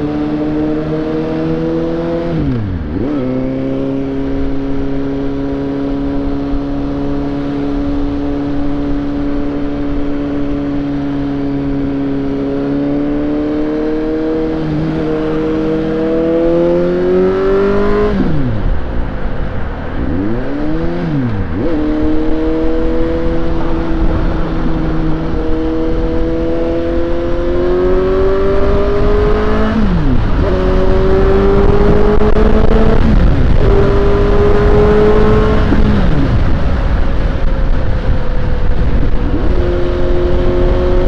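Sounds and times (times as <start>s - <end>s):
motorcycle engine accelerating: 0.0s - 41.0s
wind noise: 0.0s - 41.0s.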